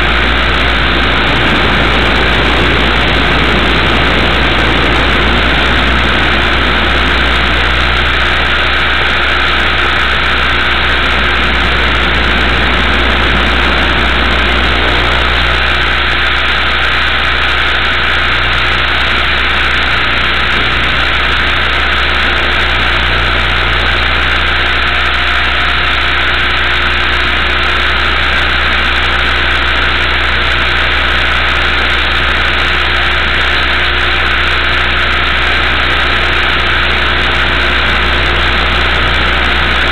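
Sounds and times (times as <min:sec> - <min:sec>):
rc helicopter rotor whirring: 0:00.0 - 0:39.9.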